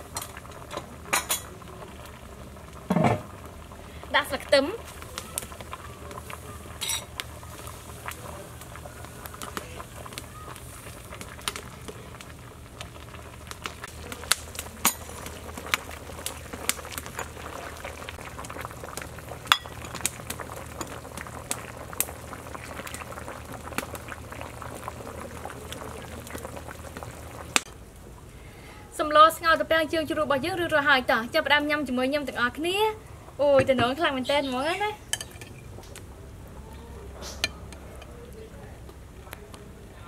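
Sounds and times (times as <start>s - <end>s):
soup boiling and bubbling: 0.0s - 40.0s.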